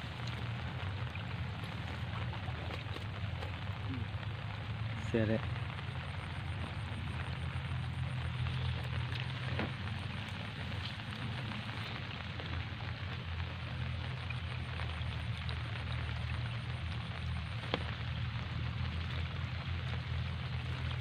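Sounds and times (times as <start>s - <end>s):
low hum: 0.0s - 21.0s
rain hiss: 0.0s - 21.0s.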